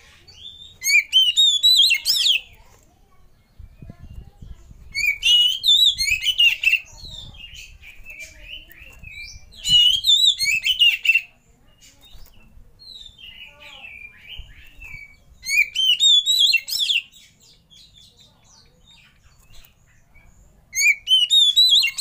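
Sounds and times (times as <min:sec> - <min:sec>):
bird whistled song: 0:00.0 - 0:02.6, 0:03.5 - 0:22.0
soft bird chirps and twitters: 0:00.0 - 0:22.0.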